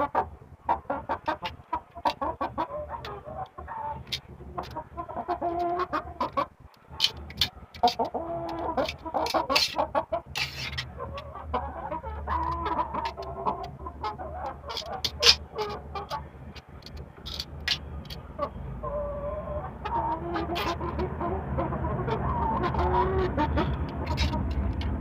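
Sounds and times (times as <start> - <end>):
chickens clucking and calling: 0.0 - 25.0
low steady hum: 0.0 - 25.0.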